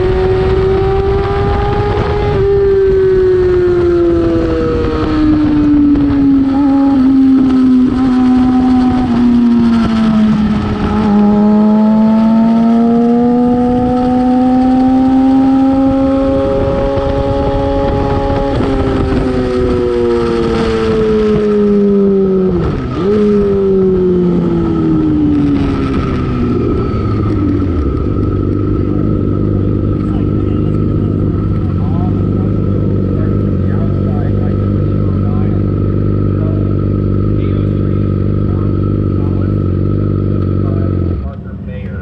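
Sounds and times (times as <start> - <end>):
motorcycle engine: 0.0 - 42.0.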